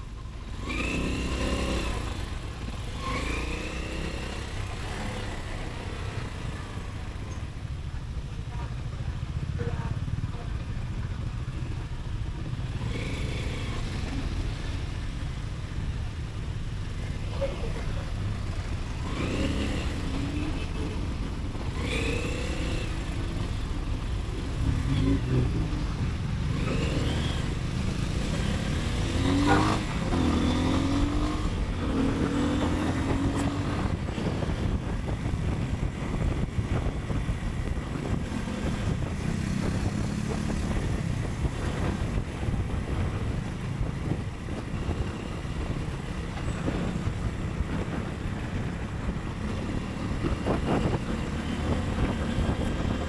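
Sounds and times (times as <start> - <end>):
motorcycle engine accelerating: 0.0 - 53.0
wind and road noise: 0.0 - 53.0.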